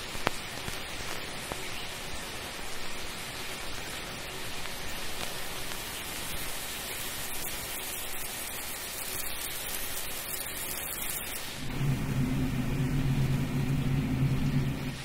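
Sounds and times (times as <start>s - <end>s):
shower water spraying: 0.0s - 15.0s.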